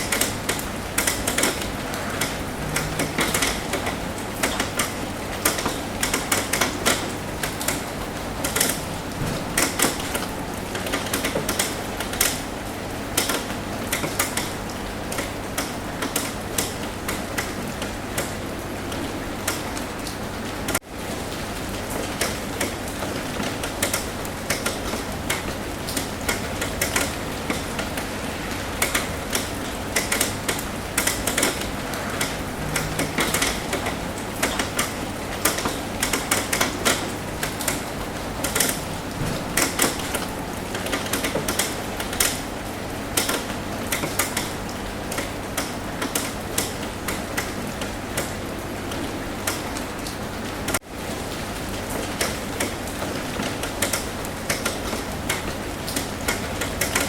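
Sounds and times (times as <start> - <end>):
rain drips tapping on roof: 0.0 - 57.0
steady hiss of rain: 0.0 - 57.0.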